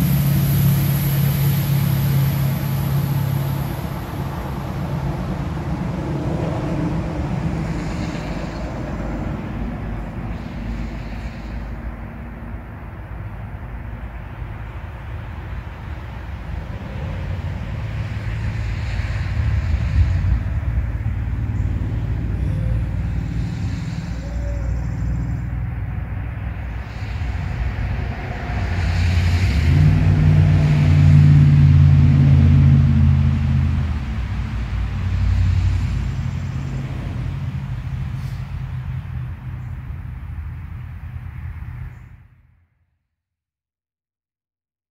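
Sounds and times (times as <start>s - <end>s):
traffic engine hum: 0.0s - 42.6s.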